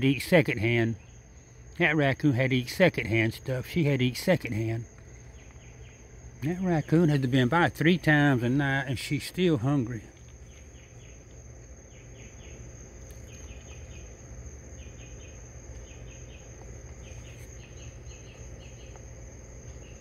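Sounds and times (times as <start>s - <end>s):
crickets chirping: 0.0s - 20.0s
faint low hum: 0.0s - 20.0s
high-pitched insect trill: 0.0s - 20.0s.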